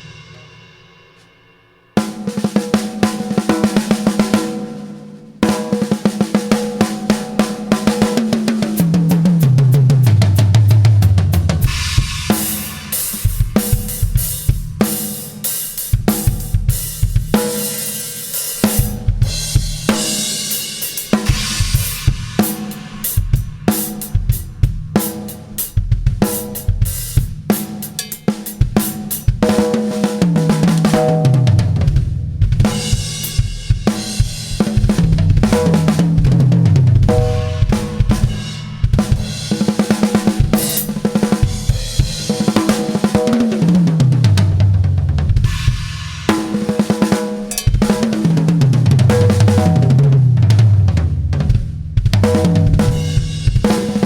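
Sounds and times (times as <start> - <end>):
drum kit groove: 0.0 - 54.0.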